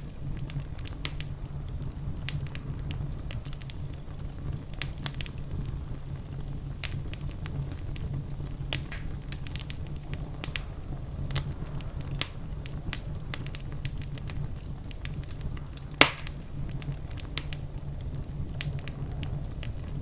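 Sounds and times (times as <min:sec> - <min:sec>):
flames rumbling: 0:00.0 - 0:20.0
wood fire pops and snaps: 0:00.0 - 0:20.0.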